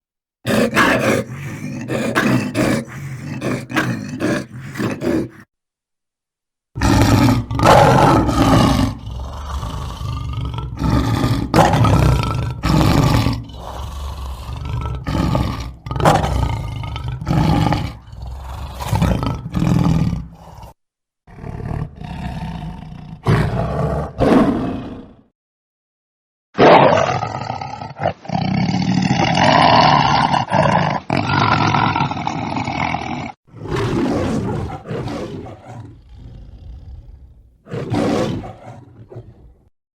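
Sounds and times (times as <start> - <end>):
lion roaring: 0.5 - 5.5, 6.8 - 25.2, 26.6 - 39.7.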